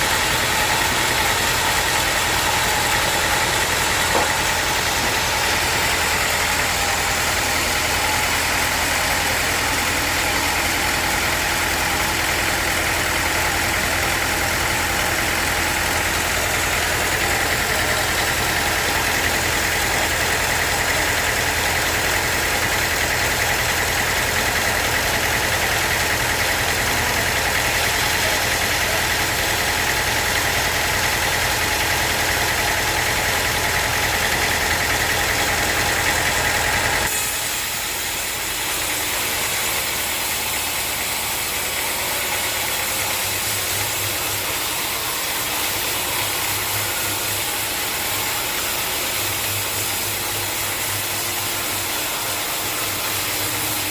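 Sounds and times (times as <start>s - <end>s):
hissy machine whir: 0.0s - 53.9s
sawmill machinery hum and whine: 0.0s - 53.9s.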